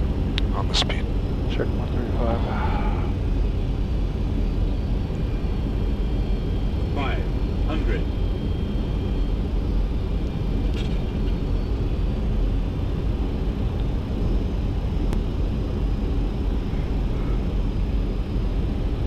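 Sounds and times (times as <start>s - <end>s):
airflow and engine noise: 0.0s - 19.0s.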